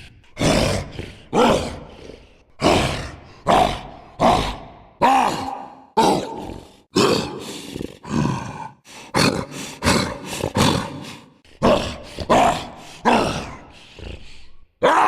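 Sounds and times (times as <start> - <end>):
person making roar-like growls: 0.0 - 15.0.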